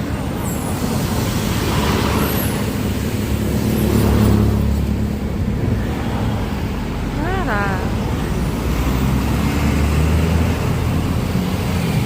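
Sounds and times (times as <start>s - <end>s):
bus engine rumbling passing by: 0.0s - 12.0s.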